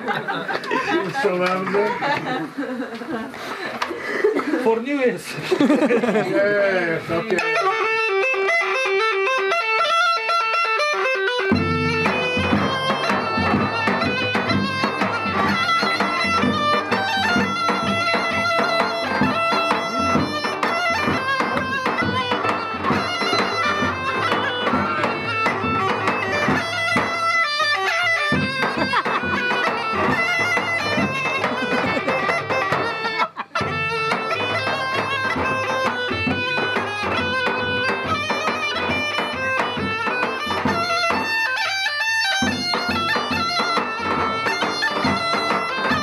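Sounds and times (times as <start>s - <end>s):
bagpipe playing folk melody: 6.6s - 46.0s.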